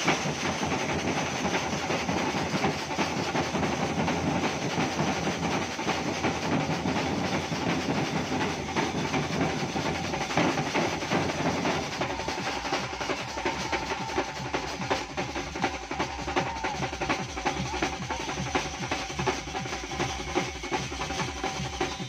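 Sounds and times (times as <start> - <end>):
barrel drums beaten with sticks: 0.0 - 22.0.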